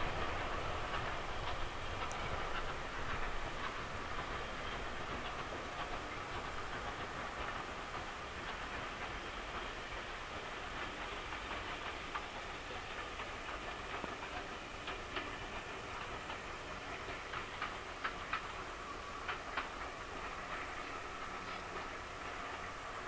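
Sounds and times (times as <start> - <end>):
steam train running: 0.0 - 23.0.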